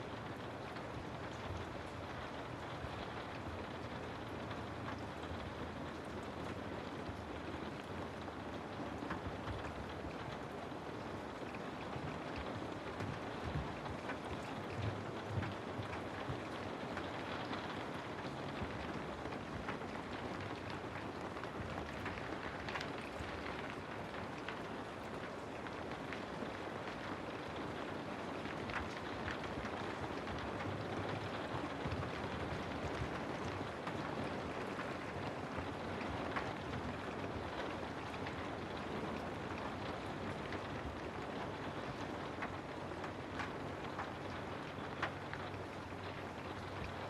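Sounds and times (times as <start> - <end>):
raindrop ticks: 0.0 - 47.0
steady rain hiss: 0.0 - 47.0.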